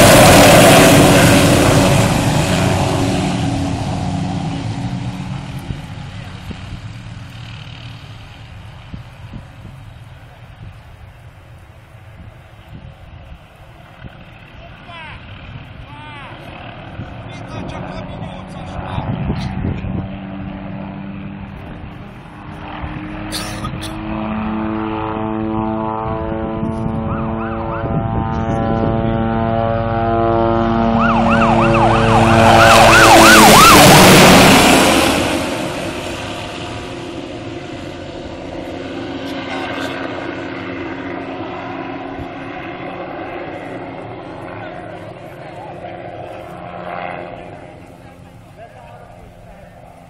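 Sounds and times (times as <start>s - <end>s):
helicopter flying past: 0.0s - 50.0s.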